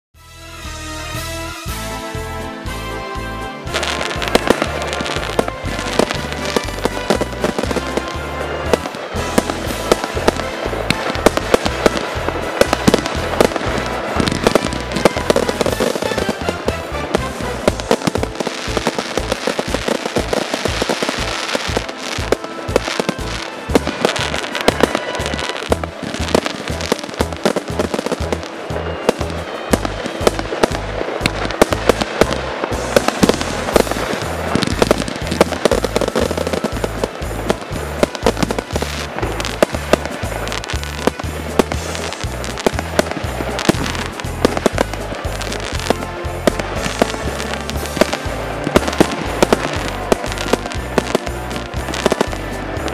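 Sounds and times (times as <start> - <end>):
music playing: 0.2 - 52.9
firework bangs and crackling: 0.6 - 52.9.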